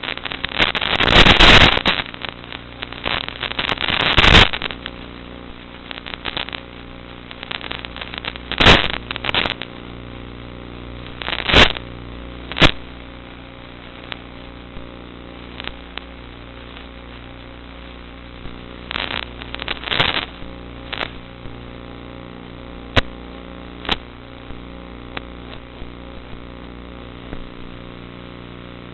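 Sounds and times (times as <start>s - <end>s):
sharp crackles: 0.0s - 28.9s.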